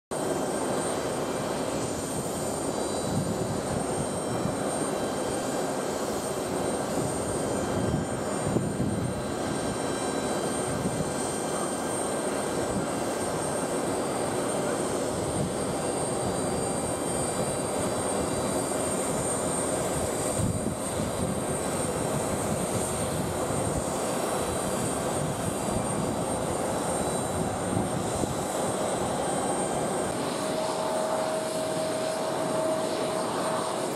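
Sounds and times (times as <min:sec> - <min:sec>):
jet engine noise: 0:00.1 - 0:33.9.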